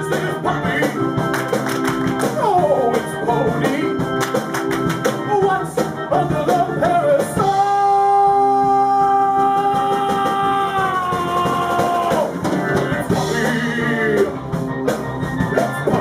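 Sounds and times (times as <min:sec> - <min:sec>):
person singing: 0:00.0 - 0:01.2, 0:02.2 - 0:04.1, 0:05.2 - 0:14.5, 0:15.5 - 0:16.0
live band playing: 0:00.0 - 0:16.0.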